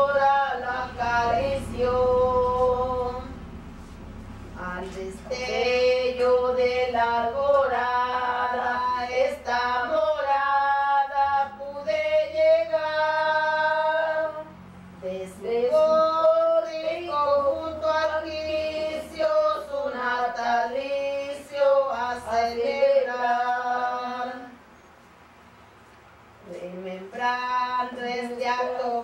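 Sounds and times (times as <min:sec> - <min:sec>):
women singing slow song: 0:00.0 - 0:24.8, 0:26.4 - 0:29.0.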